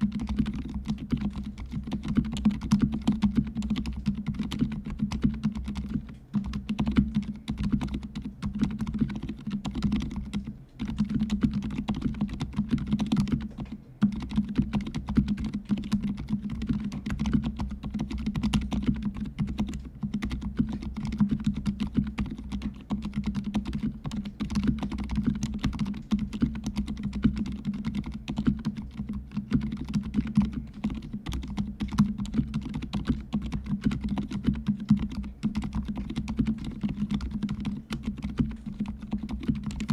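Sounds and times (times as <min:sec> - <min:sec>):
soft keyboard typing: 0:00.0 - 0:39.9.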